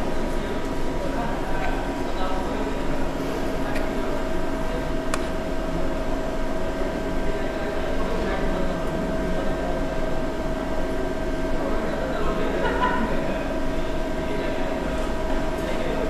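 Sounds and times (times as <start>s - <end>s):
mid-pitched whine: 0.0s - 16.0s.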